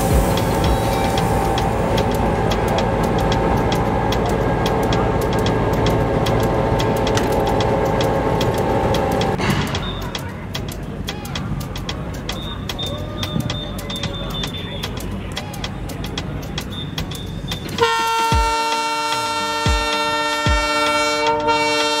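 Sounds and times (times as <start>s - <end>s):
rapid faint ticking: 0.0s - 22.0s
steady tones: 0.0s - 22.0s
vehicle engine hum: 0.0s - 22.0s.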